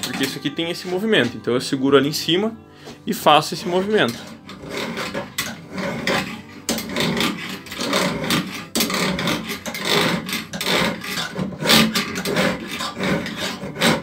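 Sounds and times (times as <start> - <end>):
file scraping metal: 0.0 - 14.0.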